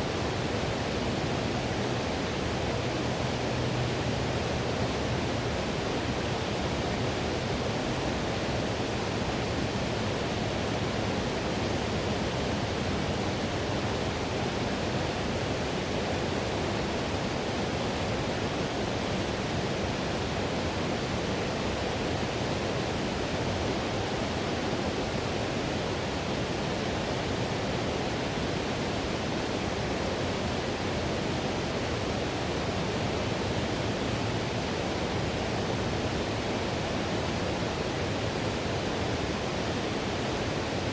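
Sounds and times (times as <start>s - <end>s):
river rushing over rapids: 0.0s - 40.9s.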